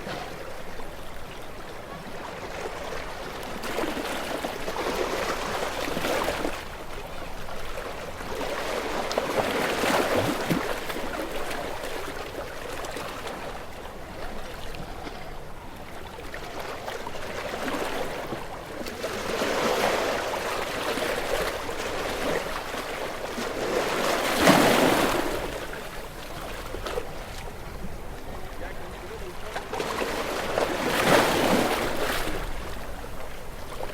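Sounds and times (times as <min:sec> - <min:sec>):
ocean waves washing ashore: 0:00.0 - 0:33.9.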